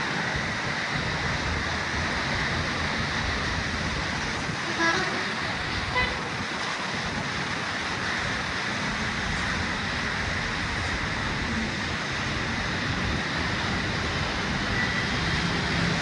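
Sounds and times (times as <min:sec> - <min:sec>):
low rumble of engines: 0:00.0 - 0:16.0
tyres hissing on wet road: 0:00.0 - 0:16.0.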